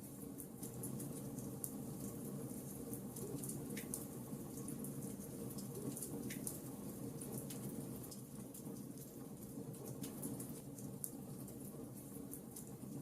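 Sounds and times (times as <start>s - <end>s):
wood fire crackling: 0.1s - 13.0s.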